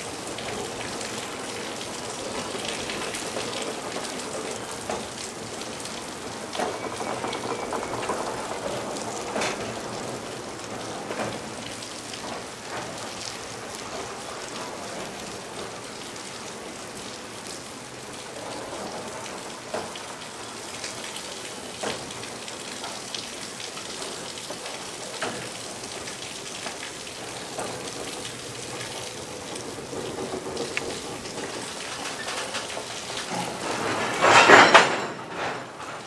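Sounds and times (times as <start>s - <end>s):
freight train rolling past: 0.0s - 22.8s, 24.6s - 36.0s
steady rain-like hiss: 0.0s - 36.0s
wheels clicking over rail joints: 0.0s - 36.0s.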